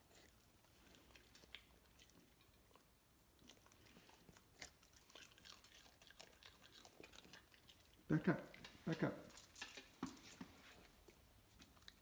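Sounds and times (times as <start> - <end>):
dog chewing a treat: 0.0 - 12.0.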